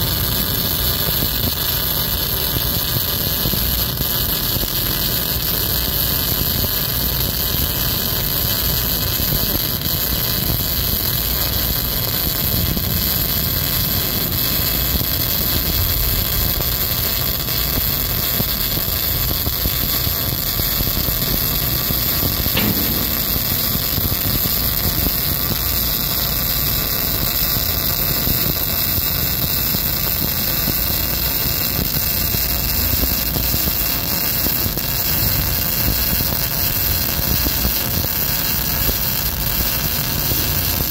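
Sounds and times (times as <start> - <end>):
welding arc burning: 0.0 - 40.9.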